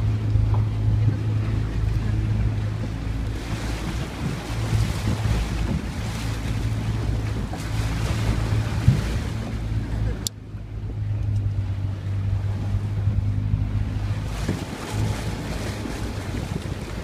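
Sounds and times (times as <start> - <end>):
boat engine droning: 0.0 - 17.0
water rushing against hull: 0.0 - 17.0
wind buffeting microphone: 0.0 - 17.0.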